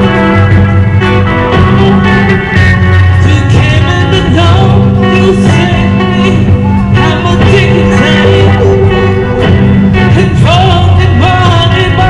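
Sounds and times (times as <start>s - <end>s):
bass line: 0.0s - 12.0s
electric guitar through amplifier: 0.0s - 12.0s
person singing: 1.3s - 12.0s.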